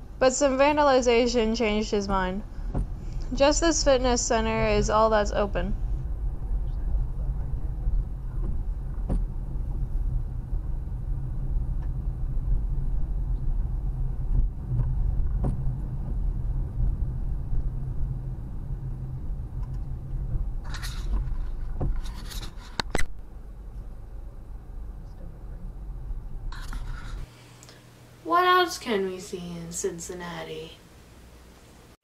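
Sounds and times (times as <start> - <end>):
car road and engine rumble: 0.0 - 27.3.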